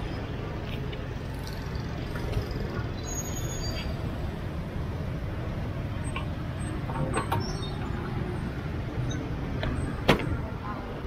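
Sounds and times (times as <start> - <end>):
passing motorbikes and cars: 0.0 - 11.0.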